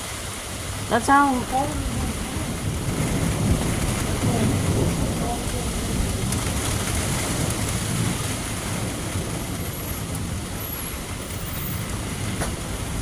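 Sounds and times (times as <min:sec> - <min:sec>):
heavy rain: 0:00.0 - 0:13.0
low thunder rumble: 0:00.0 - 0:13.0
wind: 0:00.0 - 0:13.0.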